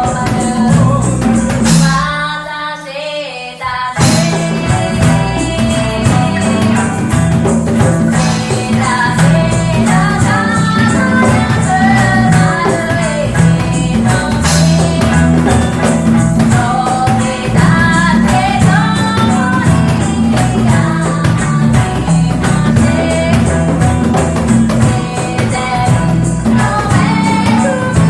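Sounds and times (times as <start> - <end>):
bass line: 0.0 - 2.1, 4.0 - 28.0
live band playing: 0.0 - 2.1, 4.0 - 28.0
percussion beat: 0.0 - 2.4, 3.9 - 28.0
person singing: 0.0 - 28.0.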